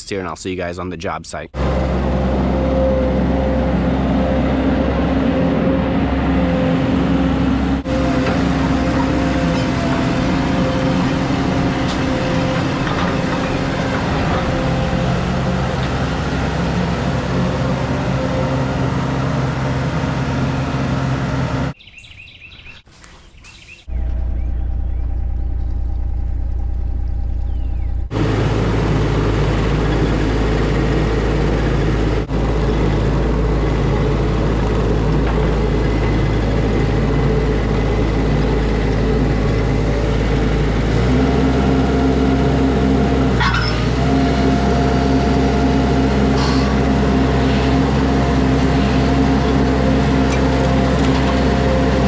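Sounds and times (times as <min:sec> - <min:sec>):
deep engine hum: 0:01.3 - 0:21.8, 0:23.8 - 0:52.0
vehicle engine running: 0:01.5 - 0:21.8, 0:23.9 - 0:52.0.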